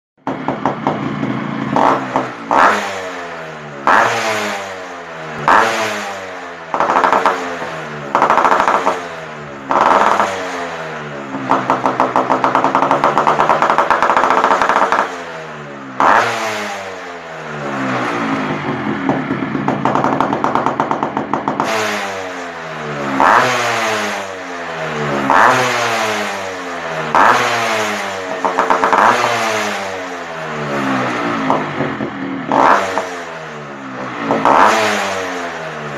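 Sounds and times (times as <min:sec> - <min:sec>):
motorcycle engine revving: 0:00.2 - 0:35.9.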